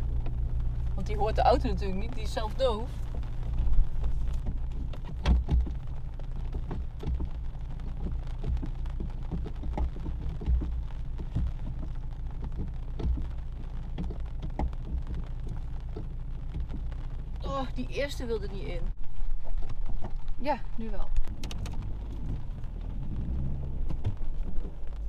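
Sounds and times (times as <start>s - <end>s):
car engine running low: 0.0s - 25.0s
rain ticking on car roof: 0.0s - 25.0s.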